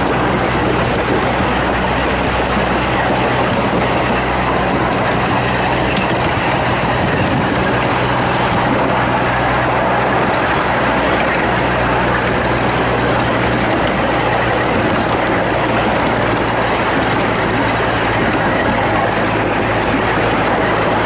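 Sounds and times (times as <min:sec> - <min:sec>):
wheels rattling on rails: 0:00.0 - 0:21.0.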